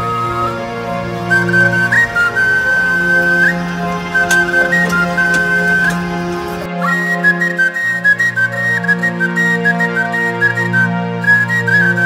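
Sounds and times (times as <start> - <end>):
whistle-like melody over low chords: 0.0 - 12.0.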